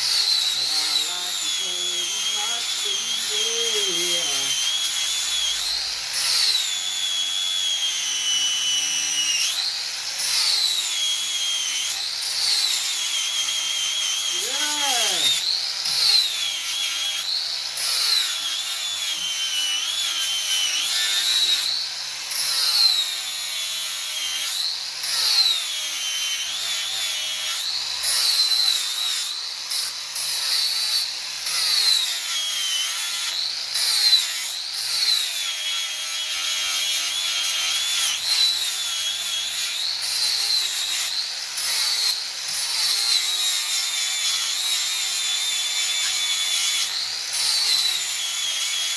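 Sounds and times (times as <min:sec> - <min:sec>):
angle grinder grinding steel: 0:00.0 - 0:48.9.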